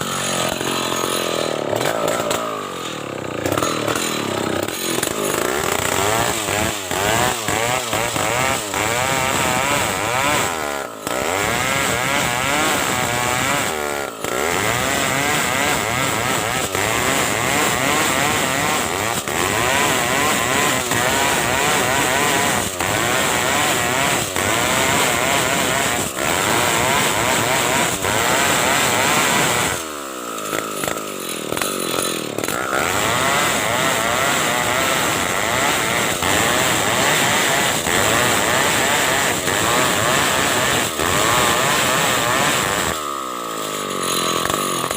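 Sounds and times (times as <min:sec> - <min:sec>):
chainsaw ripping log: 0:00.0 - 0:44.9.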